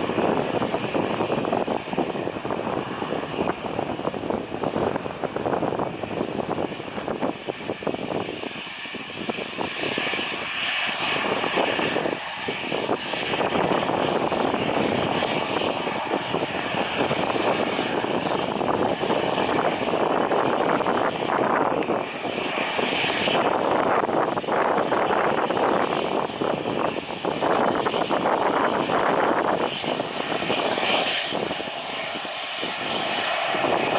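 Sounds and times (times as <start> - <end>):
airliner engines roaring: 0.0 - 33.9.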